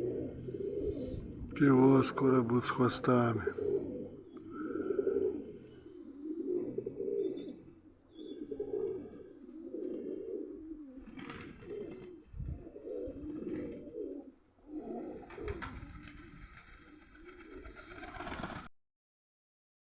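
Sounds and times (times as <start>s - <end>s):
pigeons cooing: 0.0s - 18.7s.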